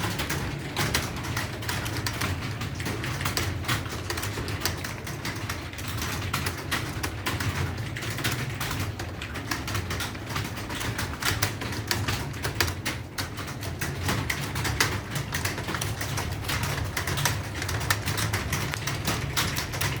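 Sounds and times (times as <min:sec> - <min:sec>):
fast typing on keyboard: 0:00.0 - 0:20.0.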